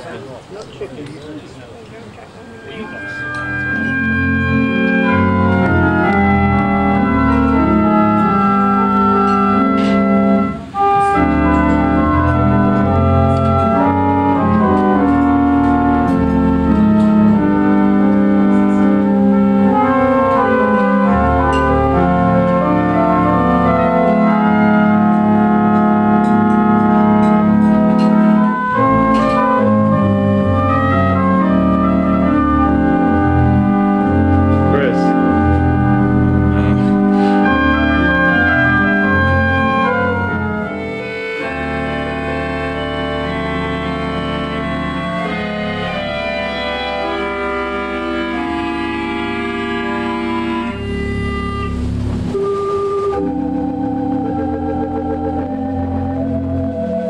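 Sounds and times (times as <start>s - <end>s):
theatre pipe organ playing: 2.3s - 57.0s.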